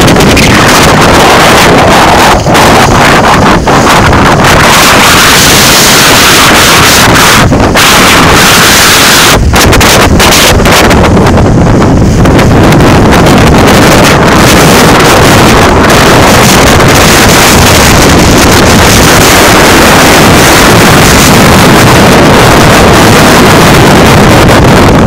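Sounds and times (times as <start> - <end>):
rough water: 0.0 - 25.0
wind buffeting microphone: 0.0 - 25.0.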